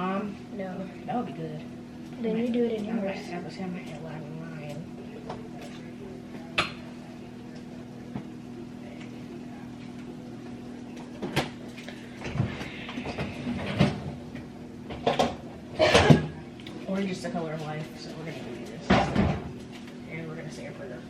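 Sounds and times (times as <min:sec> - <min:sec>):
low appliance hum: 0:00.0 - 0:21.0.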